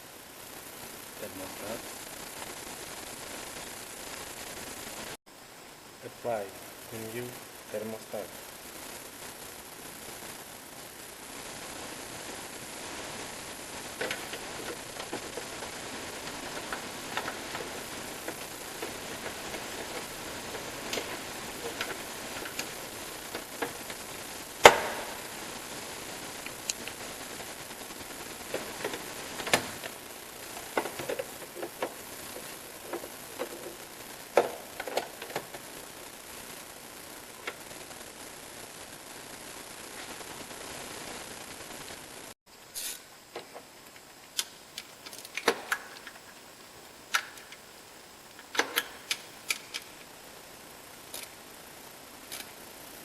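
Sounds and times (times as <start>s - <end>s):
steady hiss: 0.0s - 53.0s.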